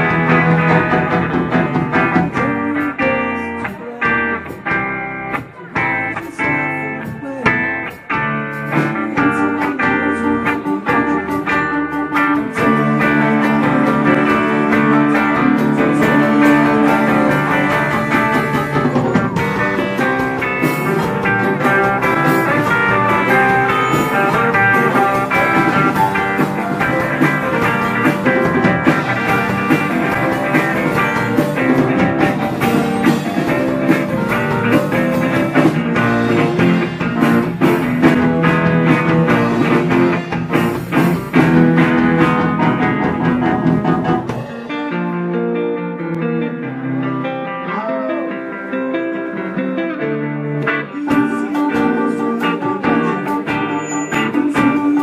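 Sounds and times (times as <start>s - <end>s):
drum kit: 0.0s - 47.2s, 50.6s - 55.0s
bass guitar: 0.0s - 55.0s
electric guitars: 0.0s - 55.0s.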